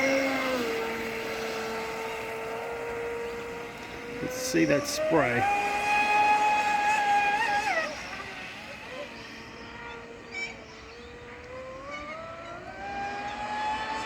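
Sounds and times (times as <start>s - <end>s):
model boat motor whining: 0.0s - 14.0s.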